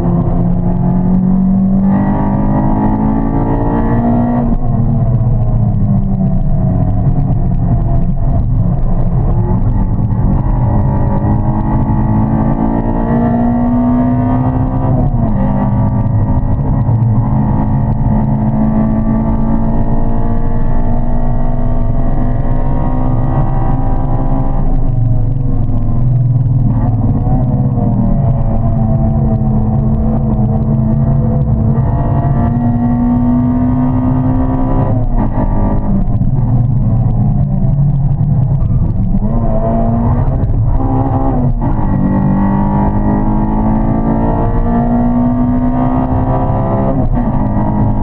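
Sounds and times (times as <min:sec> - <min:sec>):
car engine accelerating hard: 0:00.0 - 0:48.0.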